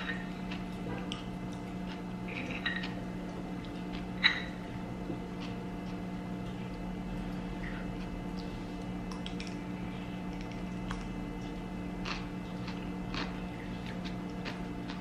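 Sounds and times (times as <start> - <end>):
chewing and sipping: 0.0 - 15.0
steady low hum: 0.0 - 15.0.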